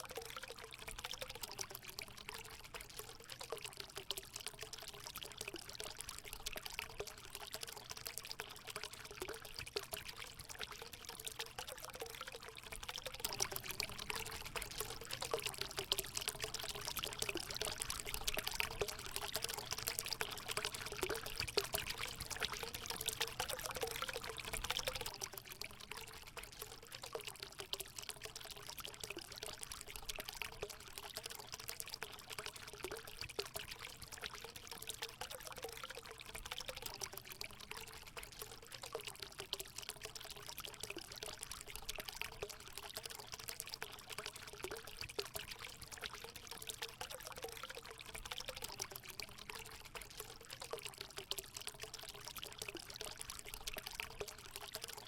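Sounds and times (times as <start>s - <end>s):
water pouring into a pool: 0.0s - 55.0s.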